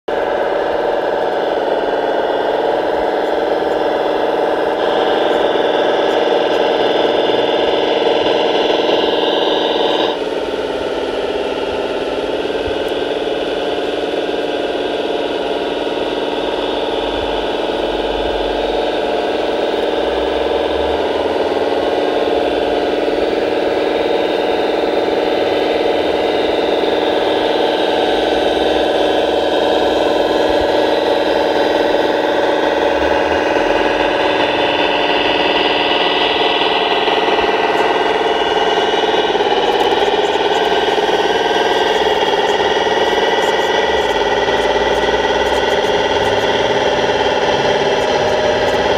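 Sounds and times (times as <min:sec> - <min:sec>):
model loader engine drone: 0:00.0 - 0:48.9
faint whine: 0:00.1 - 0:48.9.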